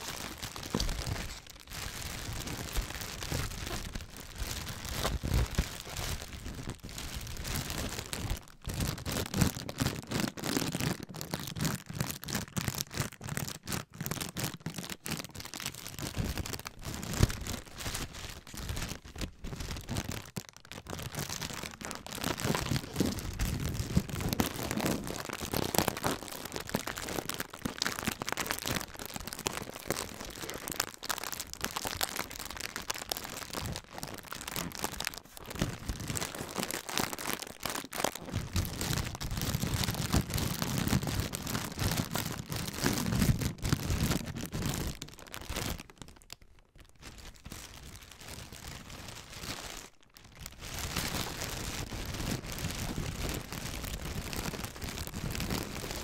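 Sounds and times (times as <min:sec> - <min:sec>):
plastic packaging crinkling: 0:00.0 - 0:56.0.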